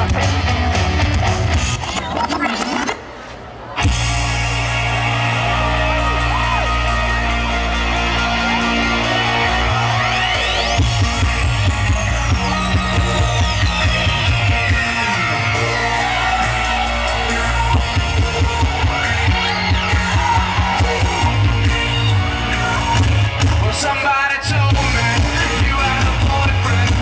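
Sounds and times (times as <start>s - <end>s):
loud rock music: 0.0s - 3.1s, 3.7s - 27.0s.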